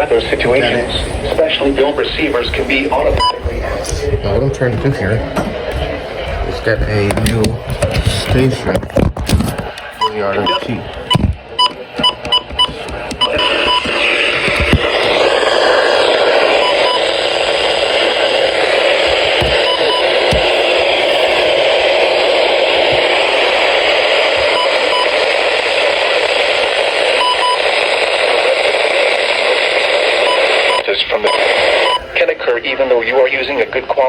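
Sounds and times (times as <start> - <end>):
radio static: 0.0 - 34.0.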